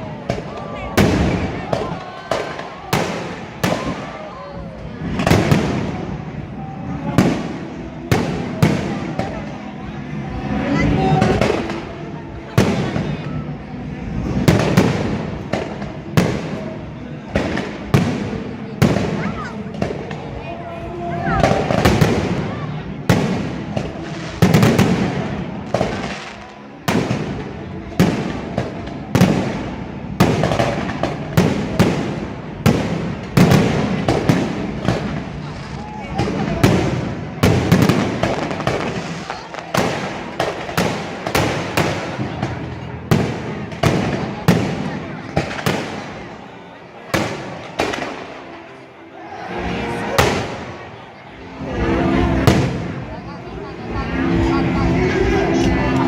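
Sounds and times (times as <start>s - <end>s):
fireworks bangs: 0.0s - 48.8s, 49.8s - 53.8s
voices: 0.0s - 56.0s.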